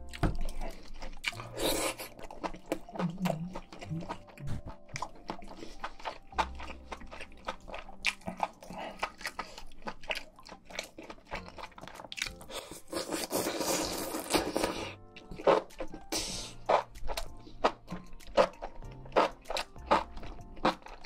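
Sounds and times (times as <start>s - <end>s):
chewing and crunching food: 0.0s - 21.0s.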